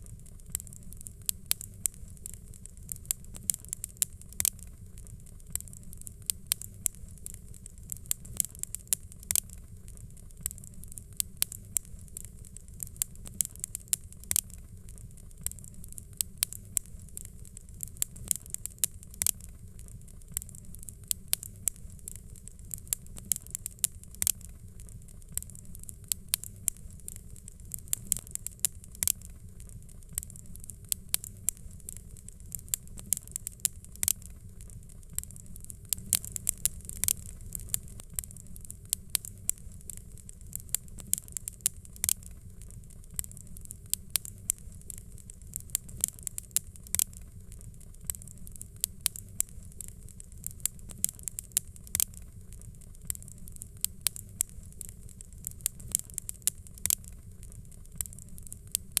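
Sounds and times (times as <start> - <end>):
fire popping and snapping: 0.0 - 59.0
low rumble of flame: 0.0 - 59.0.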